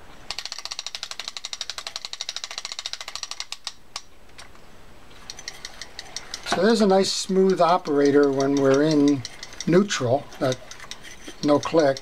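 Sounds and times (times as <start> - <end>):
fishing reel ratchet clicking: 0.3 - 3.8, 5.3 - 12.0.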